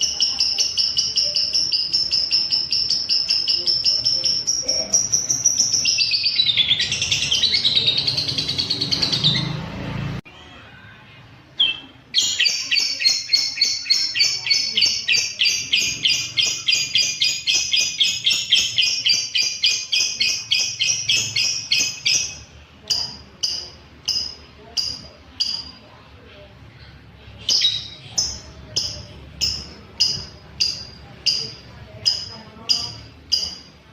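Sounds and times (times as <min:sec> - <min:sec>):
lovebird chattering trill: 0:00.0 - 0:09.6, 0:11.6 - 0:25.8, 0:27.4 - 0:33.9
lovebird high chirps: 0:00.0 - 0:09.6, 0:11.6 - 0:25.9, 0:27.4 - 0:33.9.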